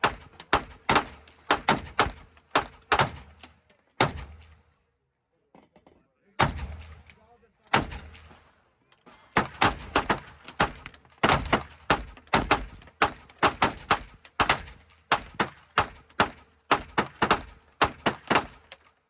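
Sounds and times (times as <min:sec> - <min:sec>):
gunshots: 0:00.0 - 0:04.6, 0:06.4 - 0:07.1, 0:07.7 - 0:08.6, 0:09.2 - 0:18.7.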